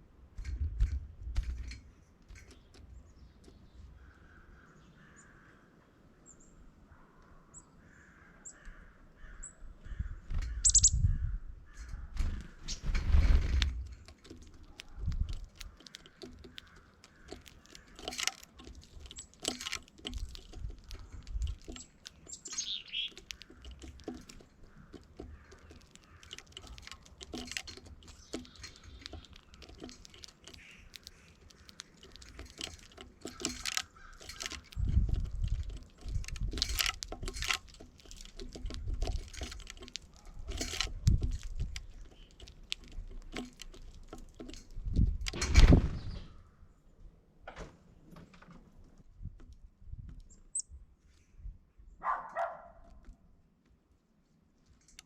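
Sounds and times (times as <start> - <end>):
birds calling and chirping: 1.6 - 47.0.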